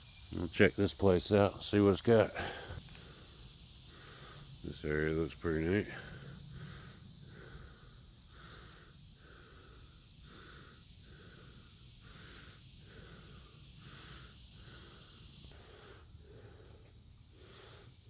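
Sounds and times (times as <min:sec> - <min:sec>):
person breathing heavily: 0:02.3 - 0:04.6, 0:05.8 - 0:18.0.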